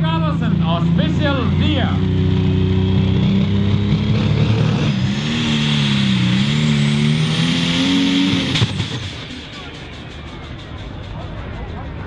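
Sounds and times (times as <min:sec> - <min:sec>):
diesel tractor engine under load: 0:00.0 - 0:12.0
high turbo whine: 0:00.0 - 0:12.0.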